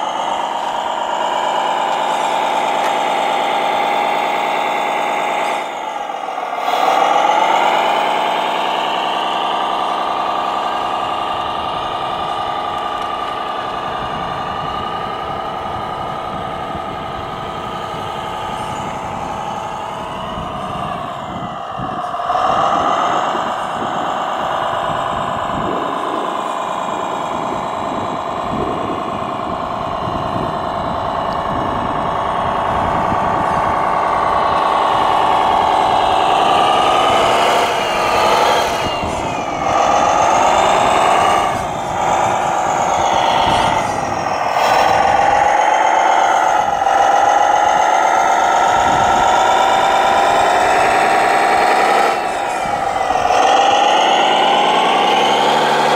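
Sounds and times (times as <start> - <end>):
electric motor and gearbox whining: 0.0 - 55.9.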